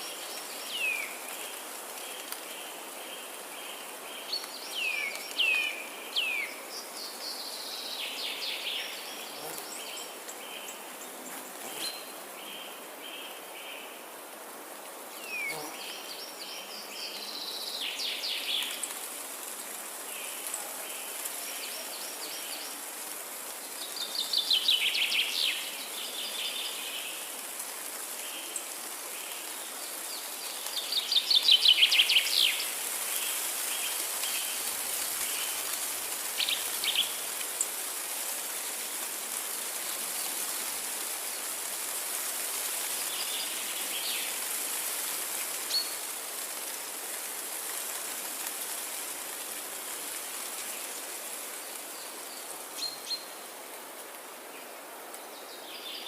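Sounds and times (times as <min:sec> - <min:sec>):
high insect hiss: 0:00.0 - 0:56.0.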